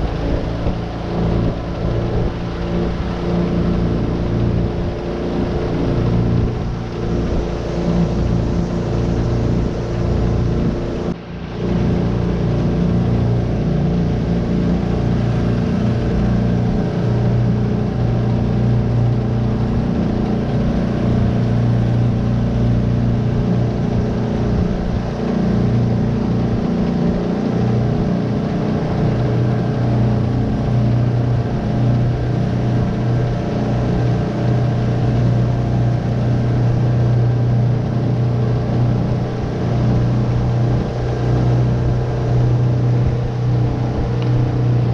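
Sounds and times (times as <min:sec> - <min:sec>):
outboard motor running: 0:00.0 - 0:44.9.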